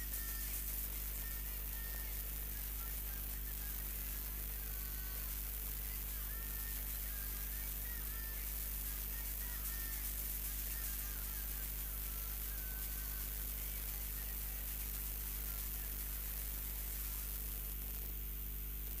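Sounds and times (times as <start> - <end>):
background hiss: 0.0 - 19.0
electrical mains hum: 0.0 - 19.0.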